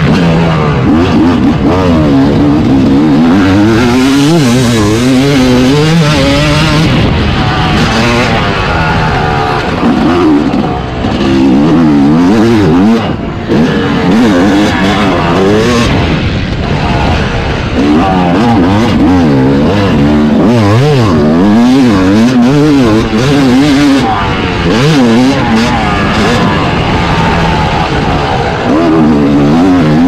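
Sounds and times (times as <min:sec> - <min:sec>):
motocross engine revving: 0:00.0 - 0:30.0.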